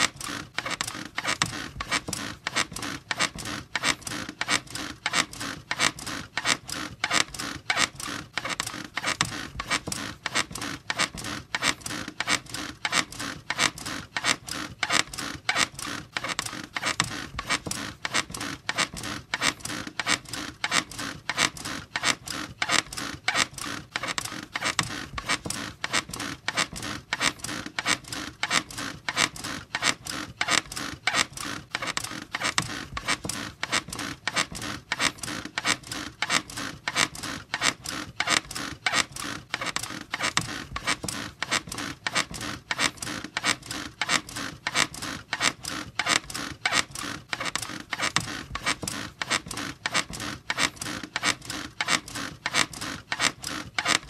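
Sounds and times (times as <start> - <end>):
bed creaking: 0.0 - 54.0.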